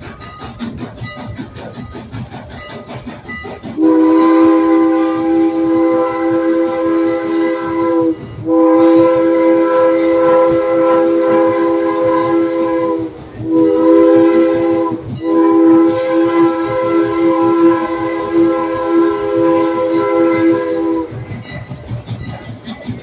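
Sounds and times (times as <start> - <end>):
steam locomotive whistle: 2.7 - 22.6.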